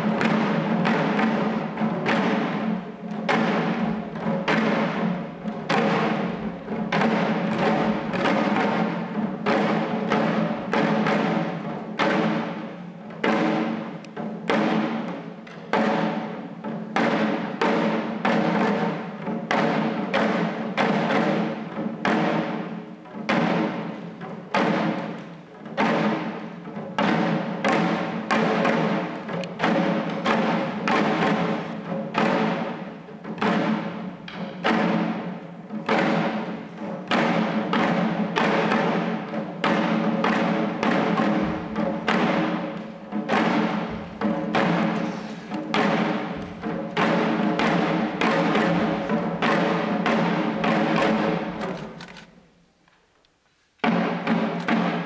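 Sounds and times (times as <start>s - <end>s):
drums beating: 0.0s - 55.0s.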